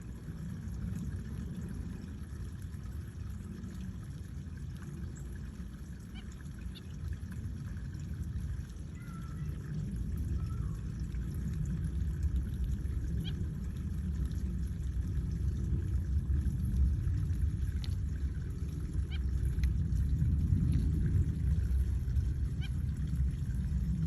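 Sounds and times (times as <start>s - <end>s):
steady low rumbling: 0.0s - 24.0s.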